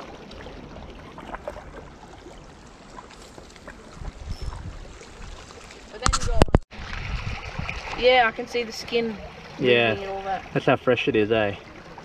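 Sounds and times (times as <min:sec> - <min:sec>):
waves lapping on rocks: 0:00.0 - 0:12.0.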